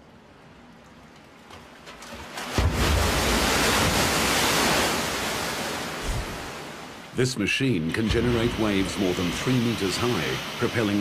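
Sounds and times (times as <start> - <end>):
loud rush of water with rumble: 2.0 - 11.0.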